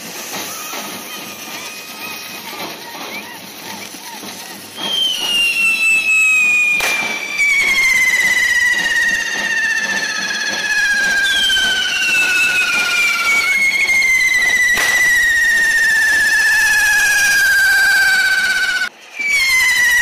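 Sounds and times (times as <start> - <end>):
sharp bangs: 0.0 - 18.9
firework fountain whistling: 0.0 - 20.0.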